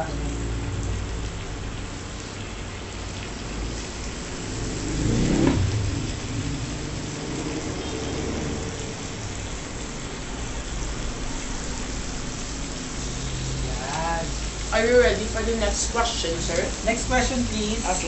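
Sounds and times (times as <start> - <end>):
meat sizzling on grill plate: 3.4 - 18.0.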